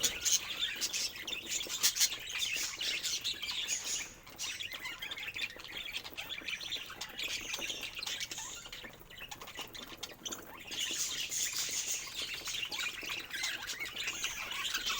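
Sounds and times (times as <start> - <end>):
budgerigars chirping and chattering: 0.0 - 14.9.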